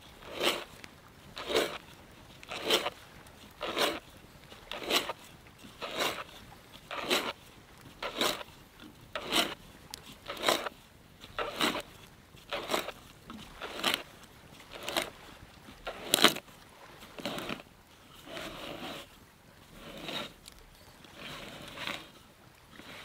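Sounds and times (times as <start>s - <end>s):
hand auger rasping wood: 0.0s - 8.5s, 9.1s - 15.2s, 15.8s - 16.4s, 17.1s - 17.6s, 18.2s - 22.2s.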